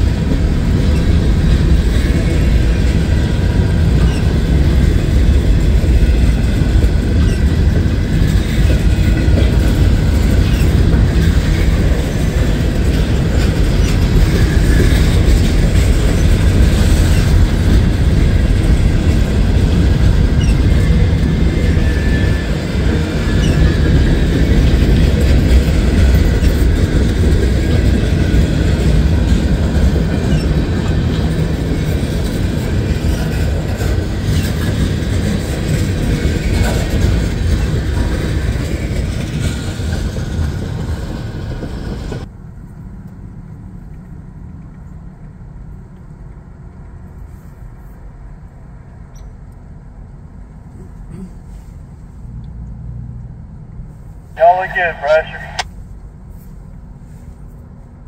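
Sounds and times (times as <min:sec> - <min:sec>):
freight train rolling past: 0:00.0 - 0:47.3.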